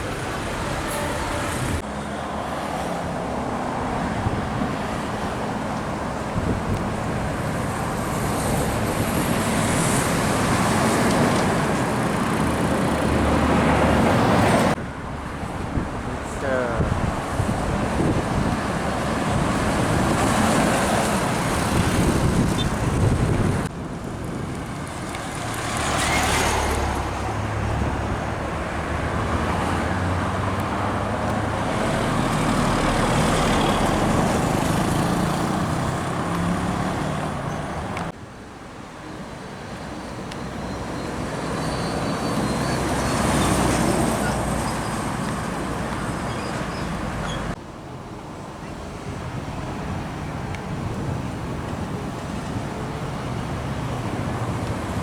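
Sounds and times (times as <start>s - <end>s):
heavy trucks driving past: 0.0s - 38.2s, 39.6s - 47.6s.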